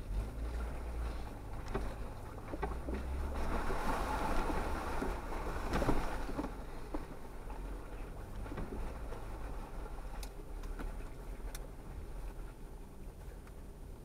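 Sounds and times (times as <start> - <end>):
tyres sloshing through mud: 0.0 - 12.2
low engine rumble: 0.0 - 14.0.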